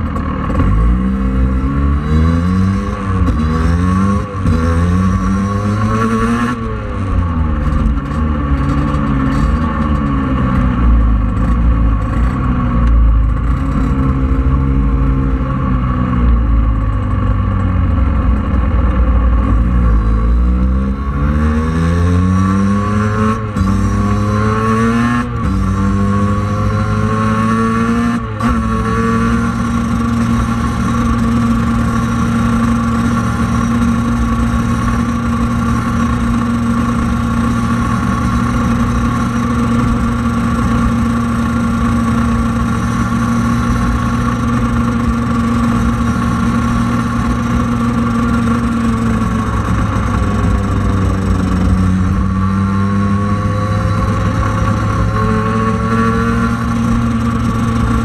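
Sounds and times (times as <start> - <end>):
scooter engine revving: 0.0 - 58.0.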